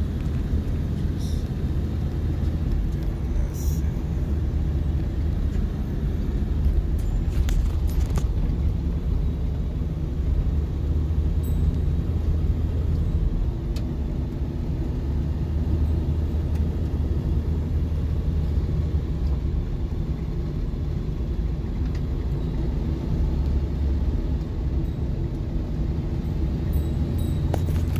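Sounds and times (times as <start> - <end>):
vehicle engine and tyres rumbling: 0.0 - 27.9.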